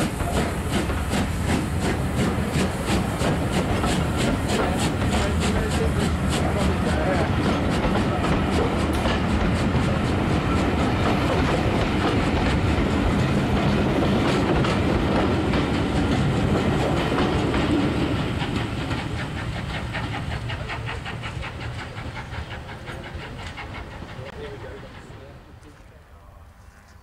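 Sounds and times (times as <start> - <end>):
train wheels clicking over rail joints: 0.0 - 26.0.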